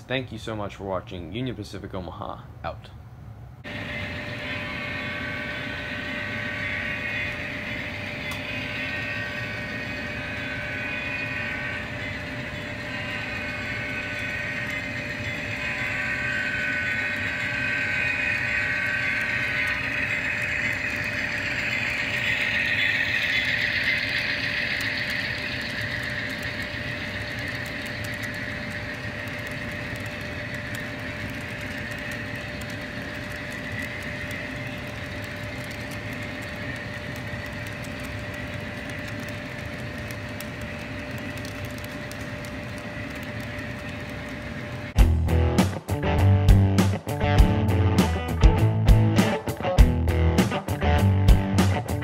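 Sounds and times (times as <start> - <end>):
train running on rails: 3.6 - 52.0.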